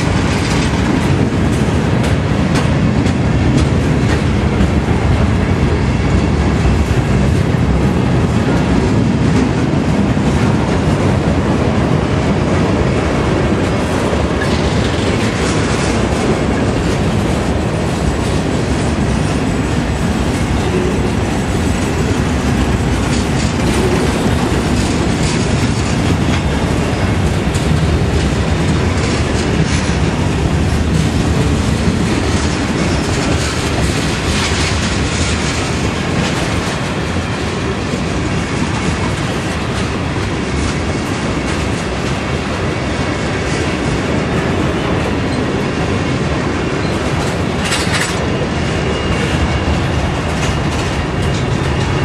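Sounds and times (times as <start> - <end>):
freight train wheels rumbling on rails: 0.0 - 52.0.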